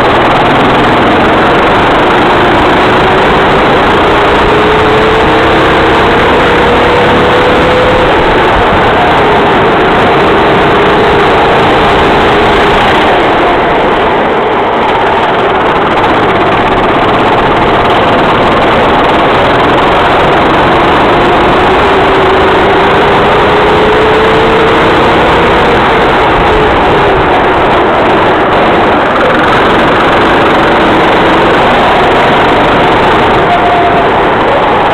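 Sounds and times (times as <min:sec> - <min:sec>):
racing kart engine at speed: 0:00.0 - 0:34.9.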